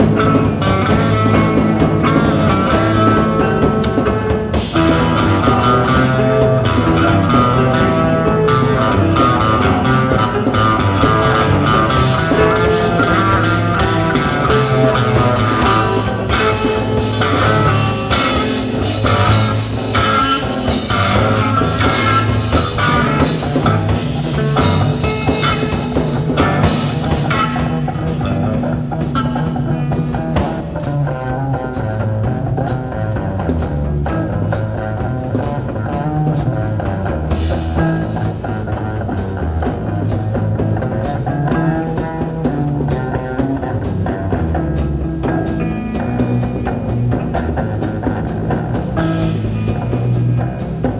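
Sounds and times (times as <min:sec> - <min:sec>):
bass guitar: 0:00.0 - 0:50.9
drum kit: 0:00.0 - 0:50.9
electric guitars: 0:00.0 - 0:50.9.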